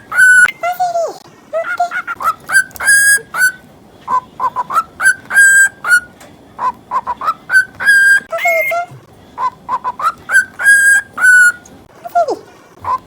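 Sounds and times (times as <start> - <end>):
cockatiel chattering and whistling: 0.0 - 0.5, 1.6 - 11.8.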